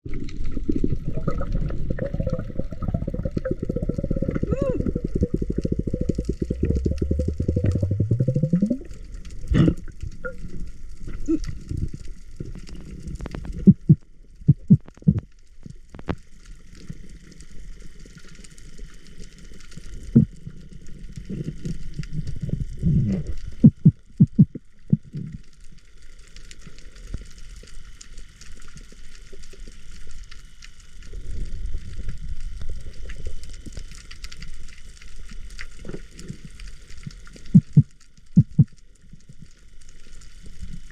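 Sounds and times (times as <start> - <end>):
underwater low rumble: 0.0 - 40.9.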